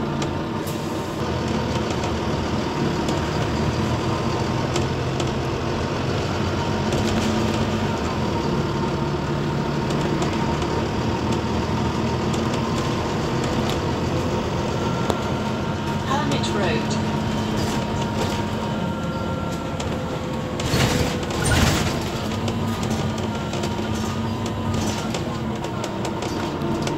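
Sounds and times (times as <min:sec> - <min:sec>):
bus engine drone: 0:00.0 - 0:26.9.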